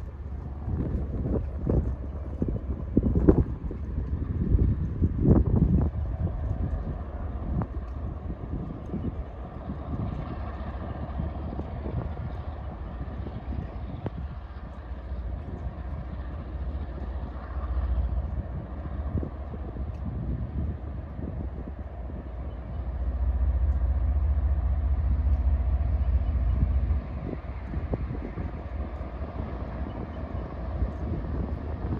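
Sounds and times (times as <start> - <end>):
diesel locomotive rumbling: 0.0 - 31.9.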